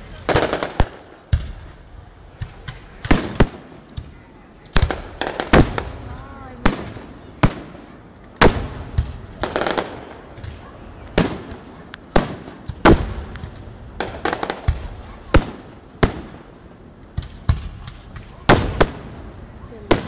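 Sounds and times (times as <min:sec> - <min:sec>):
fireworks bangs with echo: 0:00.0 - 0:20.0.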